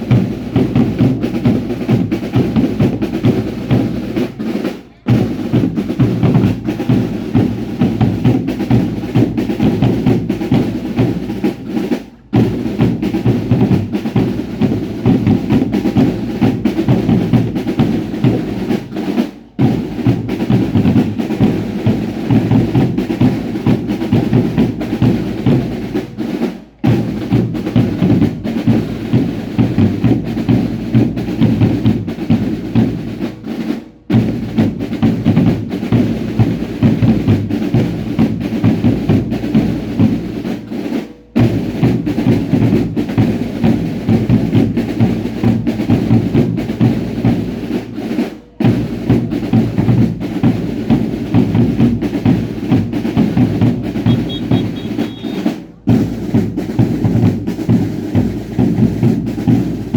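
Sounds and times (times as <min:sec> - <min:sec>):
fast drumming: 0:00.0 - 0:59.9.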